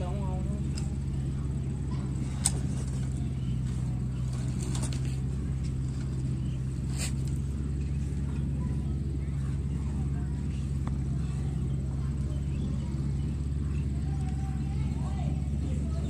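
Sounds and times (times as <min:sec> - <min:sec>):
toy tractor motor hum: 0:00.0 - 0:16.0.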